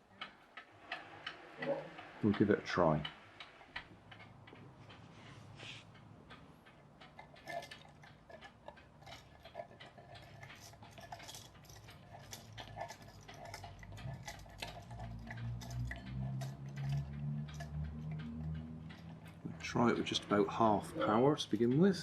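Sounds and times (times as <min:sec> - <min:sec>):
mechanical clock ticking: 0:00.0 - 0:05.1, 0:05.8 - 0:22.0.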